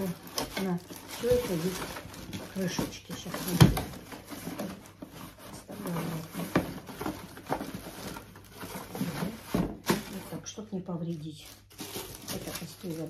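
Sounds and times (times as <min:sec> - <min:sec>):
plastic wrapping rustling: 0:00.0 - 0:13.0.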